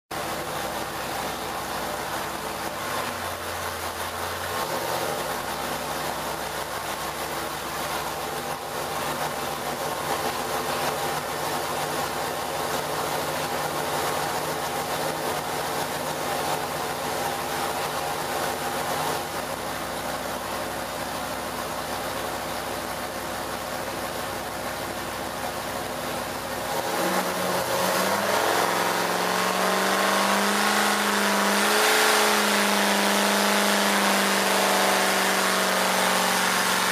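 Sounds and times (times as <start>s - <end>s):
engine running on dyno: 0.1s - 36.9s.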